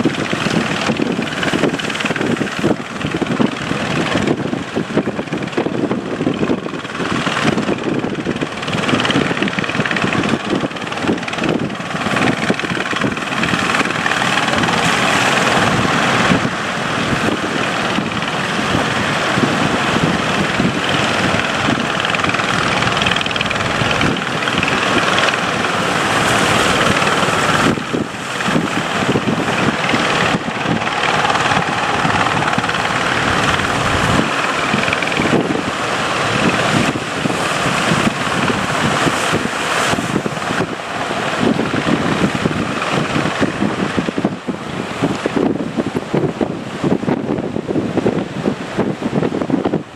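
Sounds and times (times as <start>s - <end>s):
boat engine running: 0.0s - 47.7s
rushing water: 0.0s - 49.9s
wind buffeting microphone: 0.0s - 49.9s.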